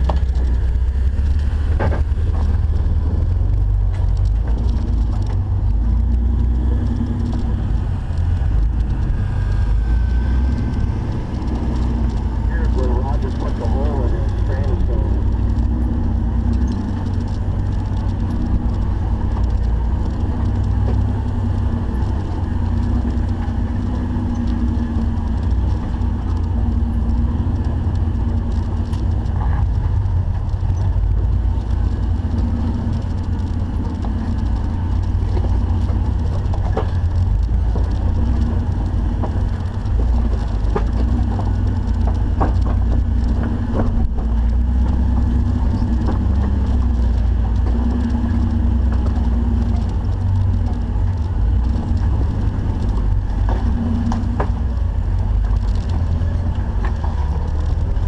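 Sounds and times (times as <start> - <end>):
engine and drivetrain rumble: 0.0 - 58.0.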